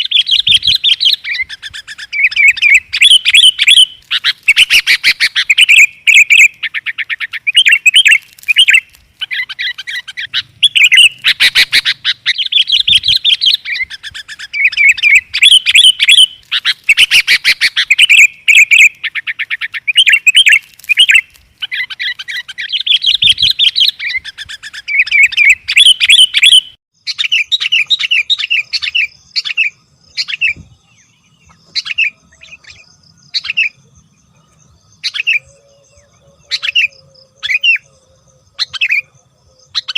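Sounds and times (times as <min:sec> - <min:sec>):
bulbul song chattering chirps: 0:00.0 - 0:39.9.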